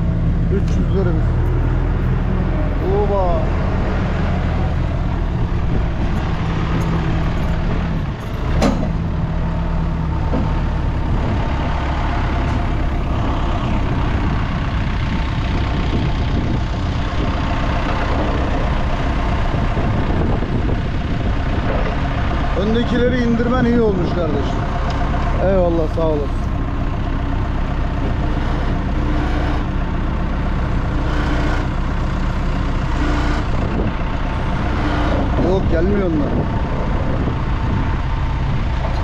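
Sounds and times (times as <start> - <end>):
diesel engines idling: 0.0 - 39.0.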